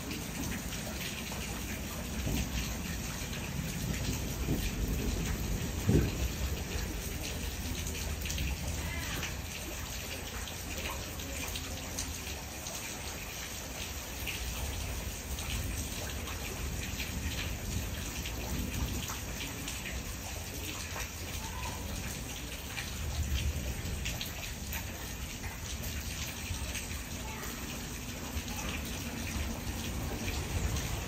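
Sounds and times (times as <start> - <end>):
raindrops striking close by: 0.0 - 31.0
steady rain falling: 0.0 - 31.0.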